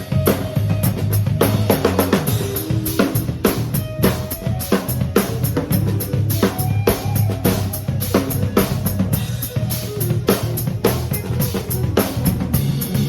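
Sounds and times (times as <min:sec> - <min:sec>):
bass guitar line: 0:00.0 - 0:13.0
drum kit beat: 0:00.0 - 0:13.0
guitar: 0:00.0 - 0:13.0.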